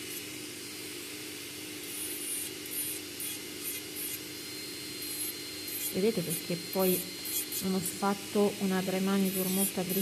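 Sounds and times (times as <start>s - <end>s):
dust collector fan: 0.0s - 10.0s
motor hum: 0.0s - 10.0s
nail drill grinding: 0.0s - 10.0s.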